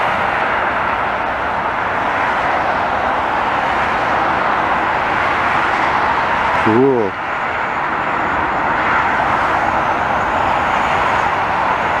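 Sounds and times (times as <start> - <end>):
loud roar of vehicle noise: 0.0 - 12.0.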